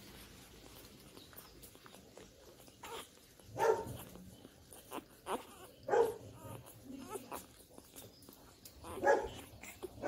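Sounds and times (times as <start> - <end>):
puppy whimpering: 1.6 - 10.0.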